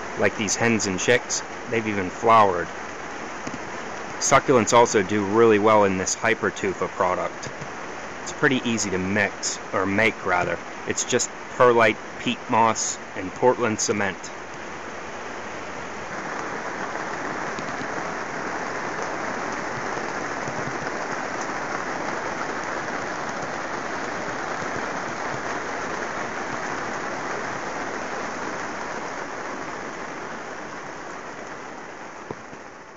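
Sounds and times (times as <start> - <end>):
rain on plastic sheeting: 0.0 - 32.9.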